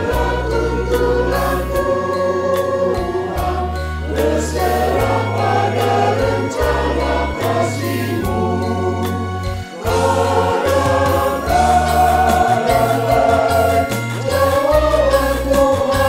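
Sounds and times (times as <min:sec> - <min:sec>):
instrumental backing with steady beat: 0:00.0 - 0:16.0
mixed choir singing: 0:00.0 - 0:16.0.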